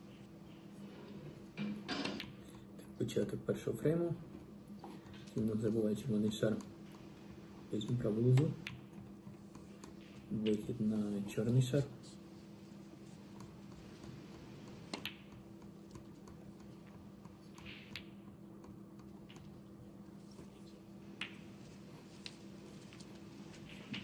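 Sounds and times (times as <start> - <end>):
steady low hum: 0.0 - 24.0
snooker balls clicking: 1.5 - 2.6, 4.2 - 11.9, 12.6 - 24.0.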